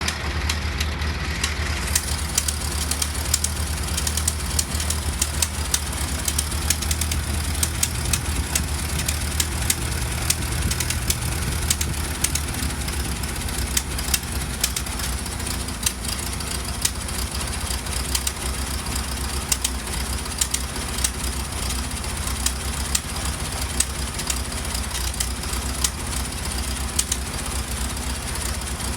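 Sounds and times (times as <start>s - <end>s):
car engine running with low hum: 0.0s - 28.9s.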